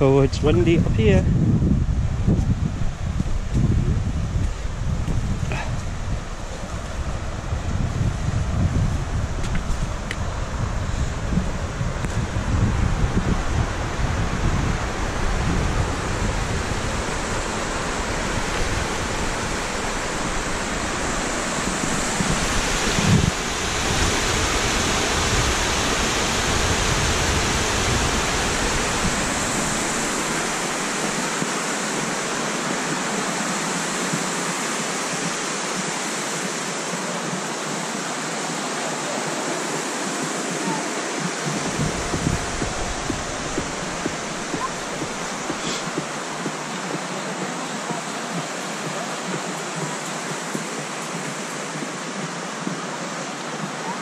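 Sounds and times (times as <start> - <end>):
wind buffeting microphone: 0.0 - 54.0
stream cascading over rocks: 3.1 - 54.0.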